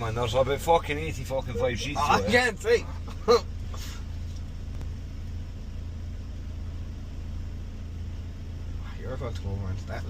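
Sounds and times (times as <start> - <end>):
engine and road drone in cab: 0.0 - 10.0.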